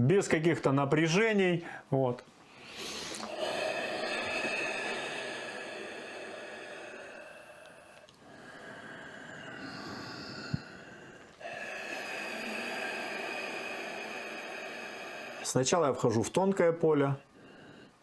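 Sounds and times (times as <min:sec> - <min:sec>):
person breathing slowly: 0:02.5 - 0:18.0.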